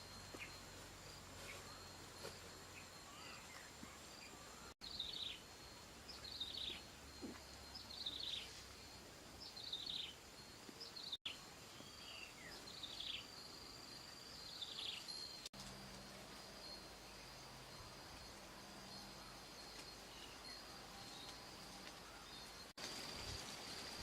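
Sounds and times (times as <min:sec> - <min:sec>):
high insect whine: 0:00.0 - 0:24.0.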